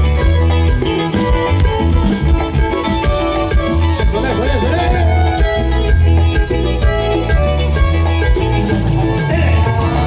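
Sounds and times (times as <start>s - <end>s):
dance-band music with bass: 0.0s - 10.0s.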